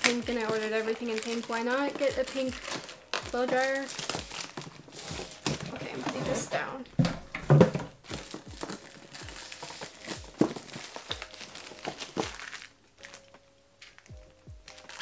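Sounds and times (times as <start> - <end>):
plastic wrap crinkling: 0.0 - 15.0.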